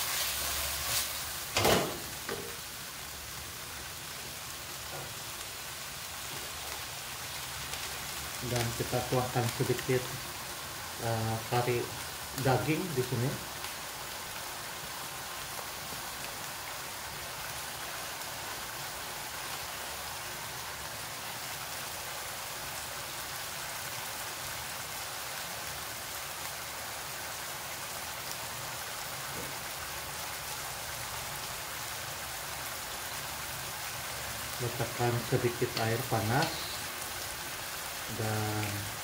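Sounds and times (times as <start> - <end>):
food sizzling in a wok: 0.0 - 39.0.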